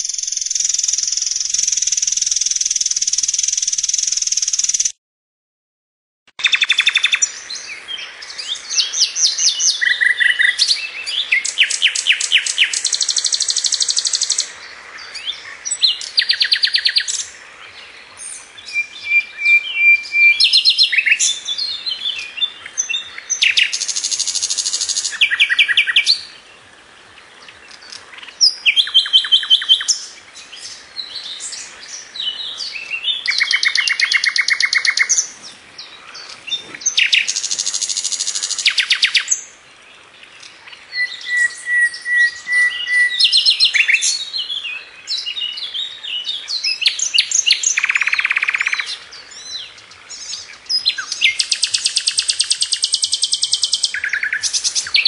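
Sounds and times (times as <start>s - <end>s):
songbird singing trills: 0.0s - 5.0s, 6.4s - 55.0s
faint steady hiss: 6.4s - 55.0s.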